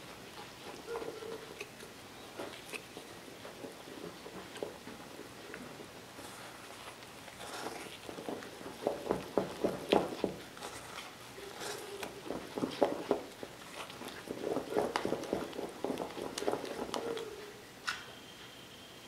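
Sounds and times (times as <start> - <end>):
spoon stirring thick batter: 0.4 - 17.5.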